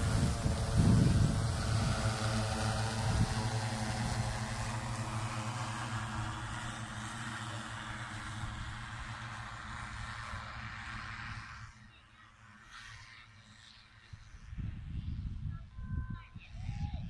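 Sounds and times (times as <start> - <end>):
drone propellers humming: 0.0 - 14.6.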